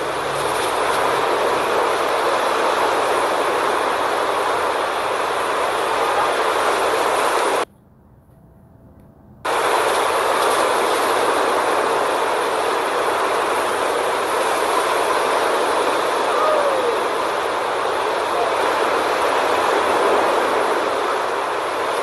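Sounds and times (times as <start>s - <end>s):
surf on a beach: 0.0s - 7.6s, 9.4s - 22.0s
wind: 0.0s - 22.0s.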